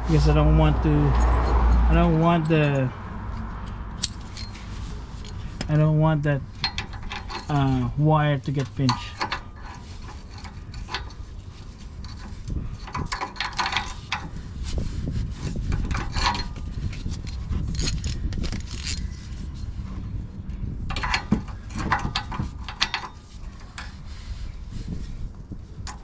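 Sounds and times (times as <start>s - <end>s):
ratchet clicking and scraping: 0.1s - 19.8s, 20.9s - 25.1s.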